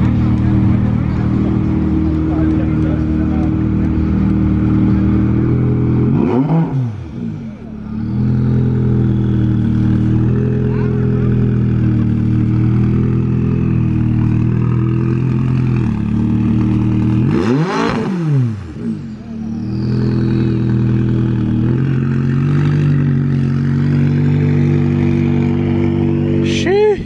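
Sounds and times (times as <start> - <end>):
engine revving: 0.0 - 27.0
sports car engines running: 0.0 - 27.0.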